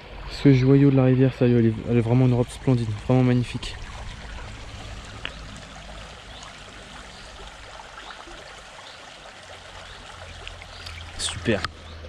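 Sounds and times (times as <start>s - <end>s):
shallow stream rippling: 0.0s - 12.0s.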